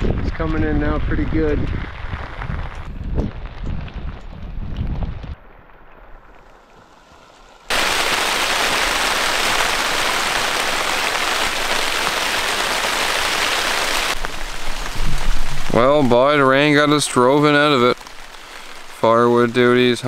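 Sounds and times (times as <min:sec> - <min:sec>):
heavy rain on plastic tarp: 0:00.0 - 0:20.0.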